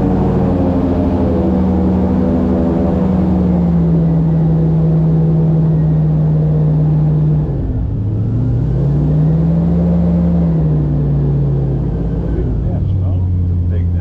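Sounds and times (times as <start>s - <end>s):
airboat engine and propeller: 0.0s - 14.0s.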